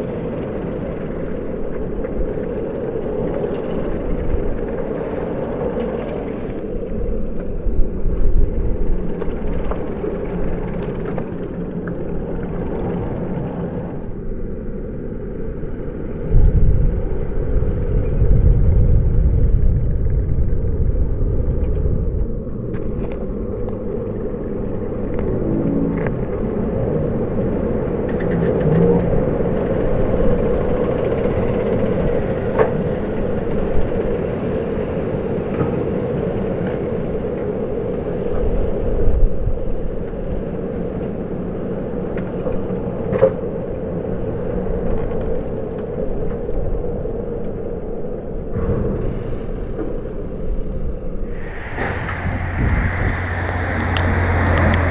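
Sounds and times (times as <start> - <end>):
road rumble: 0.0 - 54.9
wind buffeting: 0.0 - 54.9.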